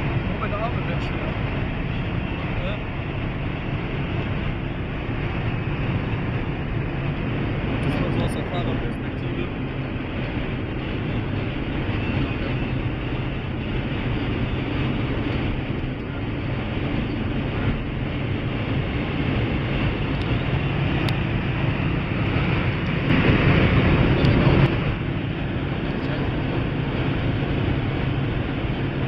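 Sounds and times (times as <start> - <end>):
diesel engine drone: 0.0 - 29.0
wind noise: 0.0 - 29.0.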